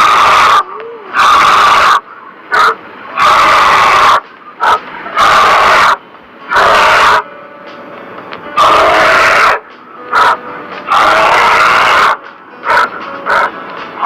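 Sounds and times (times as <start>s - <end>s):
bear growling: 0.0s - 7.2s, 8.6s - 13.5s.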